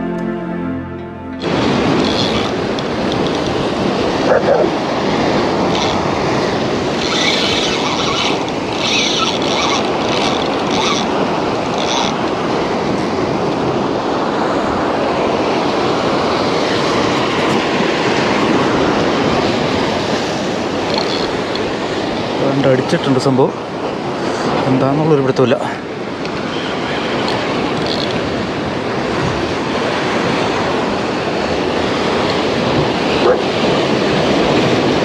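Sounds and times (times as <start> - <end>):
waves washing over rocks: 1.4 - 35.0.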